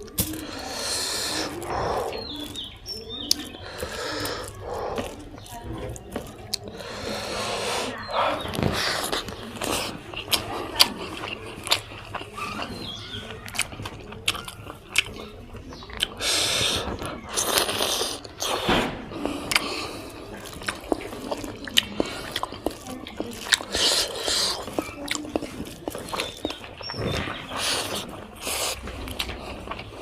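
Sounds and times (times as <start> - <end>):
person chewing food: 0.0 - 30.0
slurping: 0.0 - 30.0.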